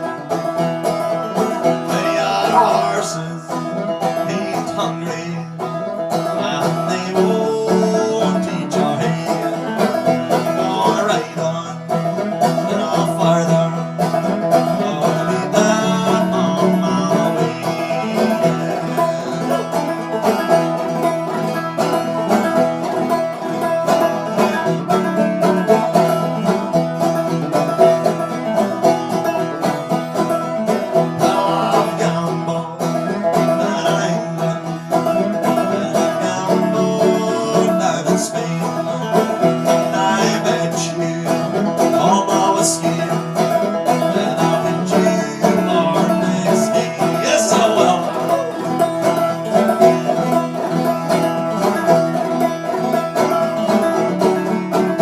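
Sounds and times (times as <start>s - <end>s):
solo banjo playing: 0.0s - 55.0s.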